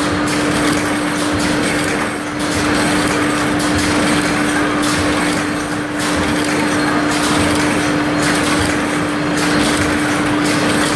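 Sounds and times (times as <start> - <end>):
welding machine running: 0.0 - 10.9.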